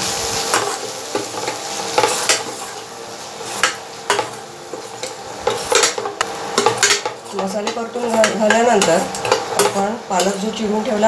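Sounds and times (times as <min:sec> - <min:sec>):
spices sizzling in oil: 0:00.0 - 0:11.0
metal spatula scraping pan: 0:00.4 - 0:11.0.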